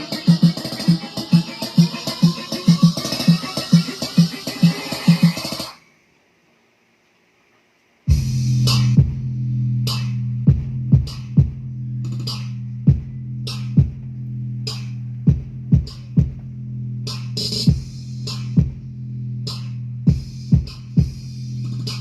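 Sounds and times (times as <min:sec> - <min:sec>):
loud electronic music: 0:00.0 - 0:05.8, 0:08.1 - 0:22.0.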